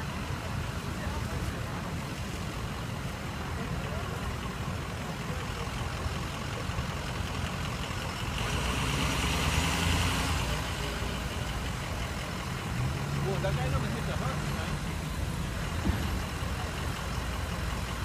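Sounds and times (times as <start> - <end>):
ambulance engine passing: 0.0 - 18.0
road noise: 0.0 - 18.0.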